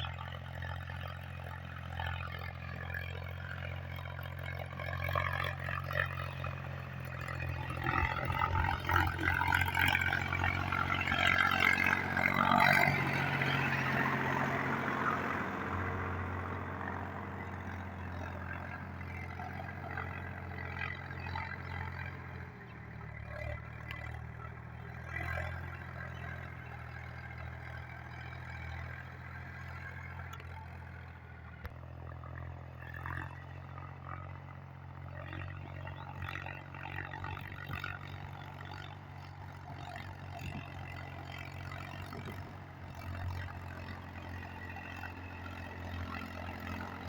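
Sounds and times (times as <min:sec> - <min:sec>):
tractor engine droning: 0:00.0 - 0:47.0.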